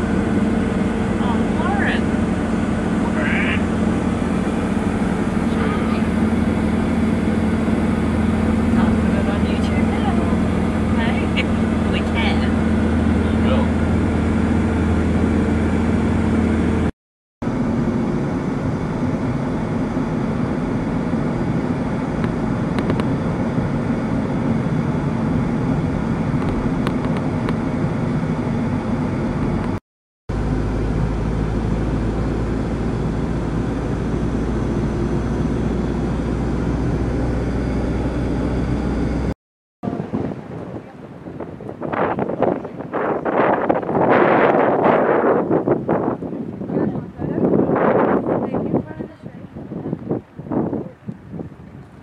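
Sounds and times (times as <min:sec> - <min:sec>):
deep low rumble: 0:00.0 - 0:52.0
engine and road noise: 0:00.0 - 0:52.0.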